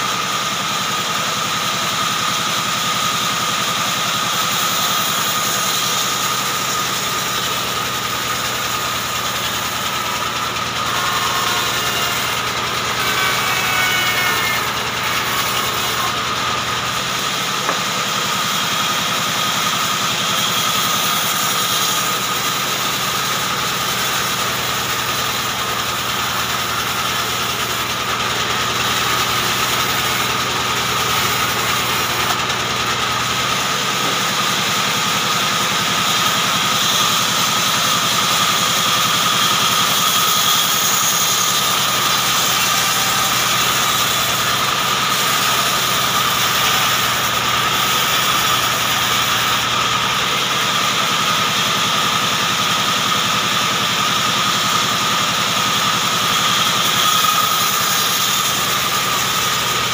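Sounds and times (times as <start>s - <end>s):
band saw whining: 0.0s - 59.9s
saw cutting log: 0.0s - 59.9s.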